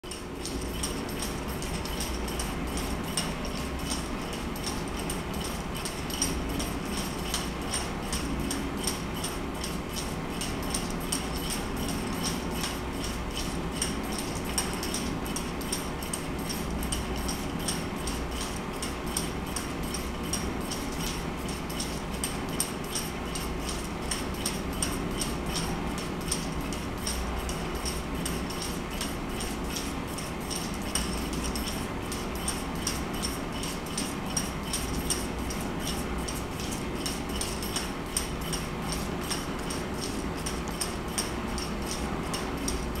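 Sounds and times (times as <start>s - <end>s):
mechanical hum: 0.0s - 43.0s.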